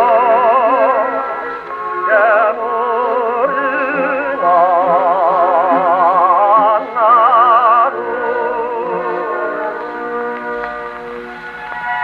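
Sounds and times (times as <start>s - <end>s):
tenor singing with vibrato: 0.0s - 10.2s
orchestra on old record: 0.0s - 12.0s.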